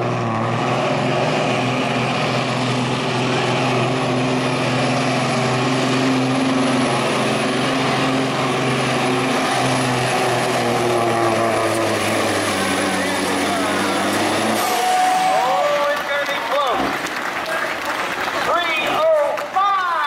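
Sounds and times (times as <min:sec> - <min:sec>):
diesel truck engine under load: 0:00.0 - 0:20.0.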